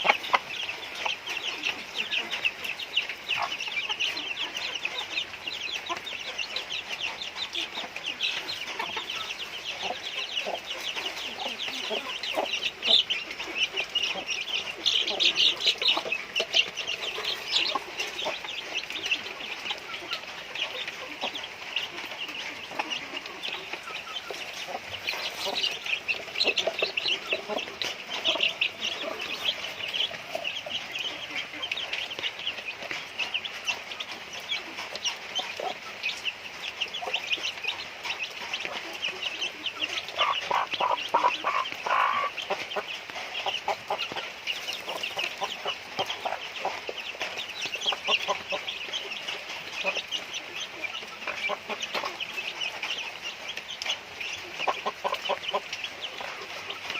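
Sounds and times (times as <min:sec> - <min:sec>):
chickens clucking and peeping: 0:00.0 - 0:56.9.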